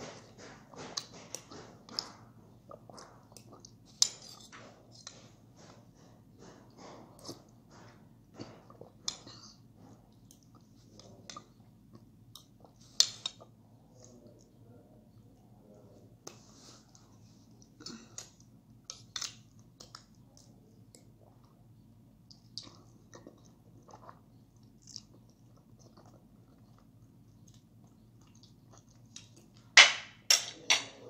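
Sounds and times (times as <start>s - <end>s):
person chewing and smacking: 0.0s - 14.6s, 16.1s - 29.8s.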